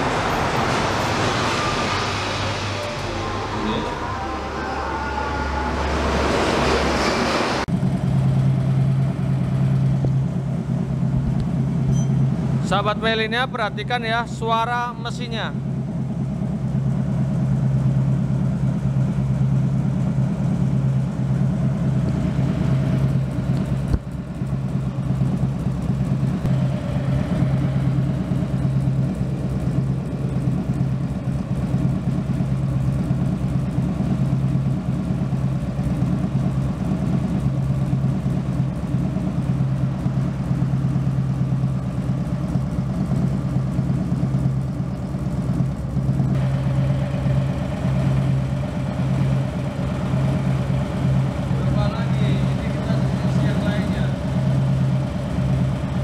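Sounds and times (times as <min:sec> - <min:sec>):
motorcycle engine idling: 0:07.7 - 0:56.0.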